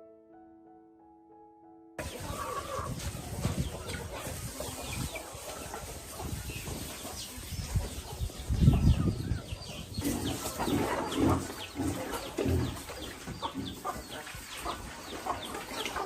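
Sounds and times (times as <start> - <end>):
chickens clucking: 2.0 - 16.0.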